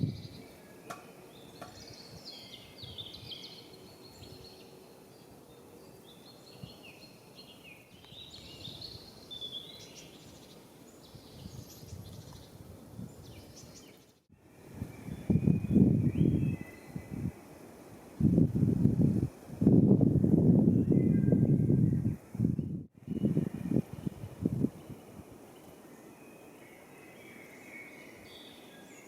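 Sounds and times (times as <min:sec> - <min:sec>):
small birds chirping and singing: 0:00.0 - 0:17.4, 0:20.6 - 0:29.0.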